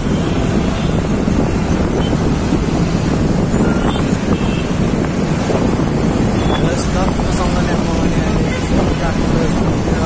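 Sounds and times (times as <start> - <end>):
road and engine noise: 0.0 - 10.0
wind buffeting microphone: 0.0 - 10.0.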